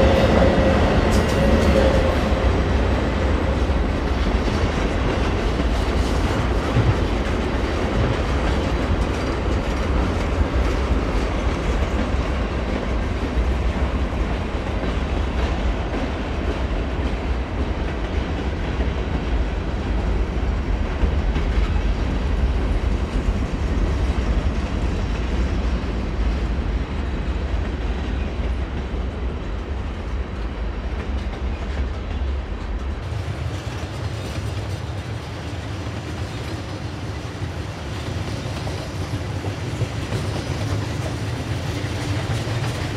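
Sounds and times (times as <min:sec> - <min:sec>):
train cars rumbling on rails: 0:00.0 - 0:42.9.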